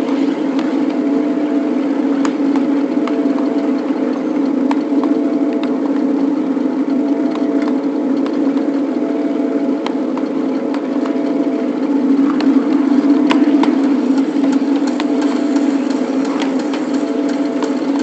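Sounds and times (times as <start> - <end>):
miniature locomotive drone: 0.0 - 18.0.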